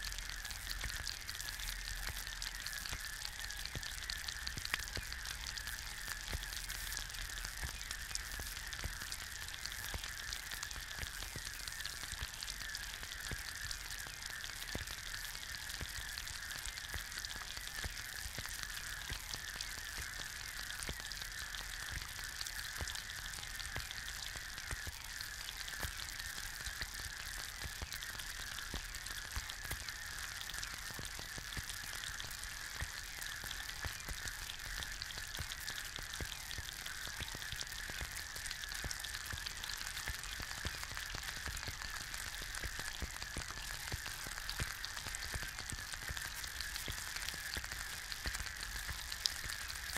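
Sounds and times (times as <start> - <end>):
egg sizzling in a pan: 0.0 - 49.9.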